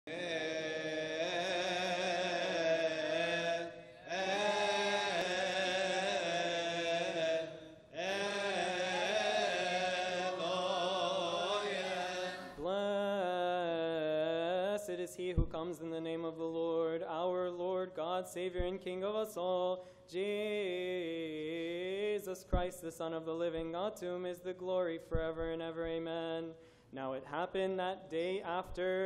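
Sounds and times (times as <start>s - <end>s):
man chanting: 0.1s - 29.0s.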